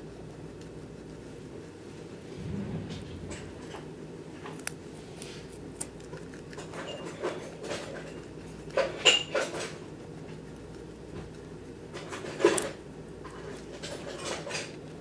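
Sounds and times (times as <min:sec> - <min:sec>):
guinea pig crunching carrot: 0:00.0 - 0:02.3, 0:03.8 - 0:15.0.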